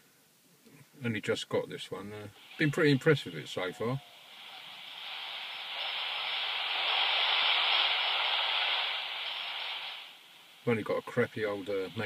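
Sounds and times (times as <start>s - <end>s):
radio static hiss: 0.8s - 12.0s.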